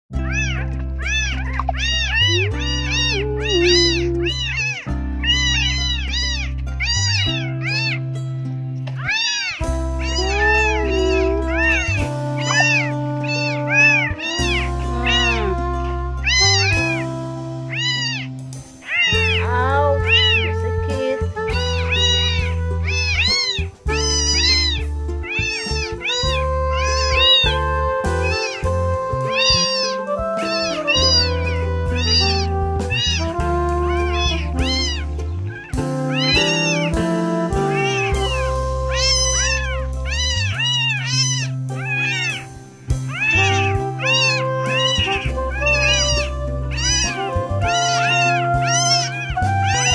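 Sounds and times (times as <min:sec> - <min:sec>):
background music with bass: 0:00.1 - 0:49.9
kittens meowing: 0:00.2 - 0:08.2, 0:08.9 - 0:17.1, 0:17.7 - 0:49.9.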